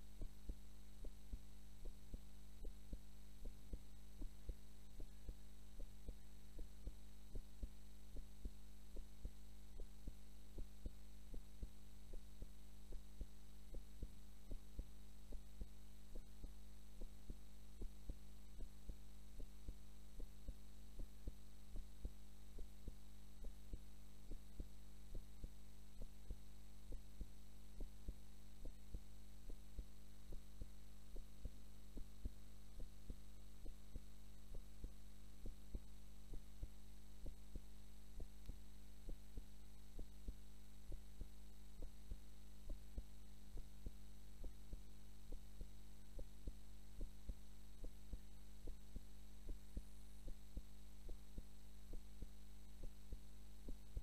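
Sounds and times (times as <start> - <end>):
heartbeat: 0.0 - 54.0
low electrical hum: 0.0 - 54.0.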